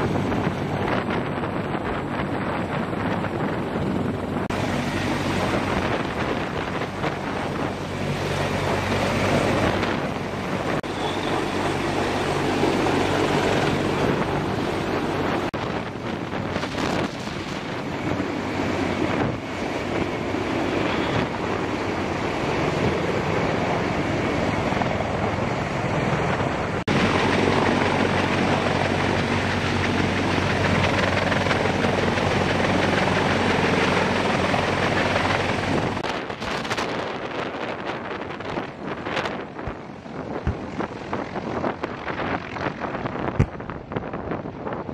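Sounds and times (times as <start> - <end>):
helicopter rotor and turbines: 0.0 - 44.9
wind buffeting microphone: 0.0 - 44.9.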